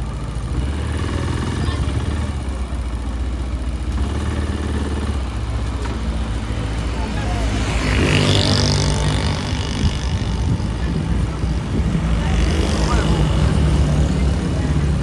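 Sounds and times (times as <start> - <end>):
motorbike engine running: 0.0 - 15.0
street traffic noise: 0.0 - 15.0.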